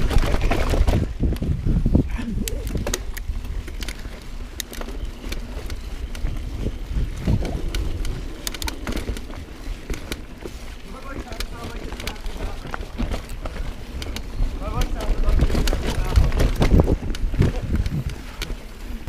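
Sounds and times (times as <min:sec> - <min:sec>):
bike clicks and rattles: 0:00.0 - 0:19.0
tyres rumbling over dirt: 0:00.0 - 0:19.0
wind buffeting microphone: 0:00.0 - 0:19.0.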